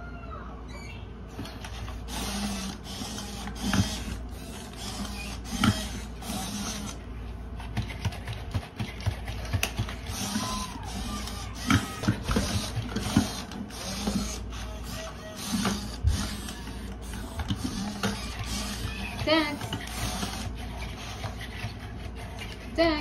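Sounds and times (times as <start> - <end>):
robot servo motors whirring: 1.3 - 7.0, 9.6 - 22.6.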